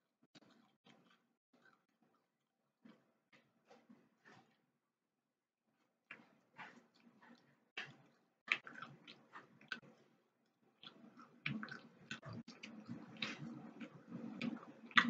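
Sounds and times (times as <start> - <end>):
person chewing food: 0.4 - 4.6, 5.8 - 15.0.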